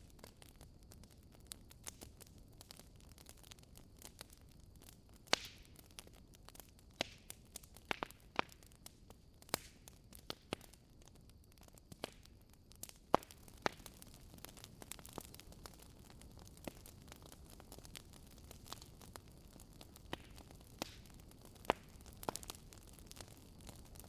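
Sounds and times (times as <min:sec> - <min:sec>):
fire hissing softly: 0:00.0 - 0:24.0.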